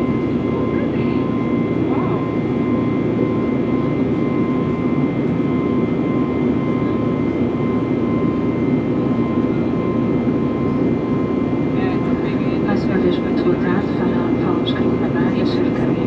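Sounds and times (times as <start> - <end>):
airliner cabin engine rush: 0.0 - 16.0.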